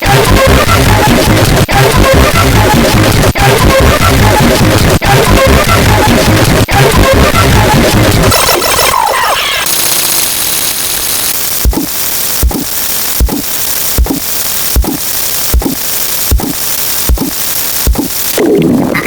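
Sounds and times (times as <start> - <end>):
static hiss: 0.0 - 19.0.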